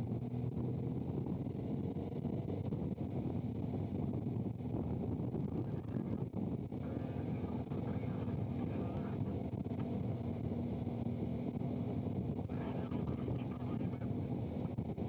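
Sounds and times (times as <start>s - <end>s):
wind noise on microphone: 0.1s - 15.0s.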